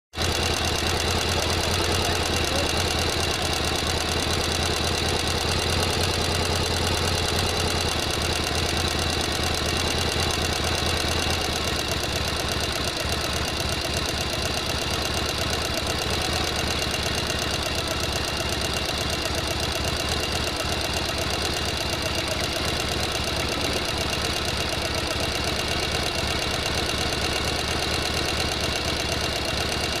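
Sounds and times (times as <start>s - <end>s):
sewing machine running: 0.2s - 30.0s.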